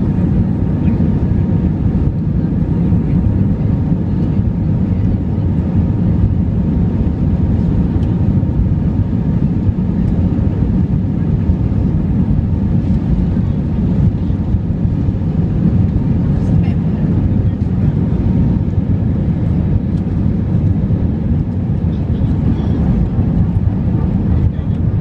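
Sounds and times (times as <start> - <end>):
jet engine rumble in cabin: 0.0 - 25.0.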